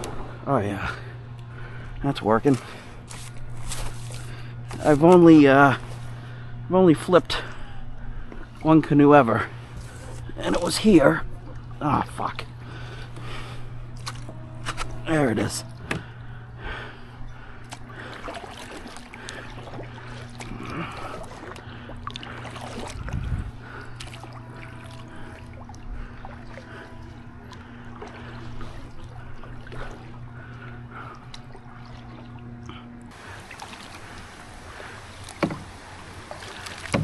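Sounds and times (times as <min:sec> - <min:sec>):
canoe paddle strokes: 0:00.0 - 0:00.4, 0:01.1 - 0:37.0
steady low hum: 0:00.0 - 0:37.0
water splashing along hull: 0:00.0 - 0:37.0.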